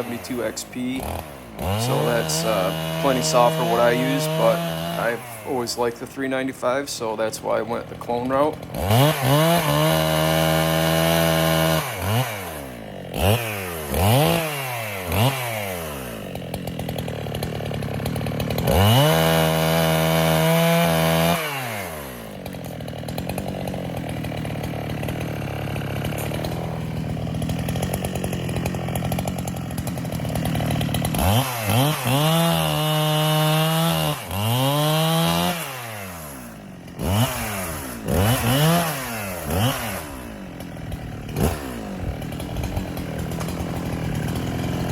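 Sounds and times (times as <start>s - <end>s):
chainsaw cutting wood: 0.0s - 44.9s
chainsaw idling: 0.0s - 44.9s
chainsaw throttle blips: 0.0s - 44.9s.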